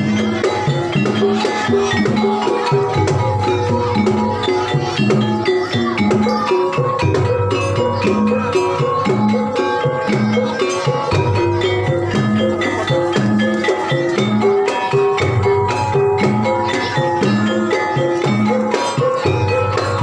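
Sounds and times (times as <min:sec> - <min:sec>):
tuned percussion melody: 0:00.0 - 0:20.0.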